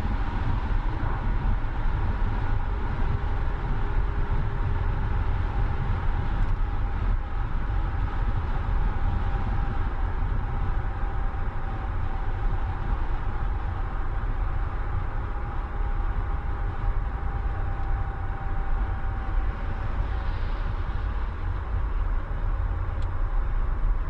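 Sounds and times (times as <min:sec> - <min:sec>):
car engine drone: 0:00.0 - 0:24.0
road and wind noise: 0:00.0 - 0:24.0.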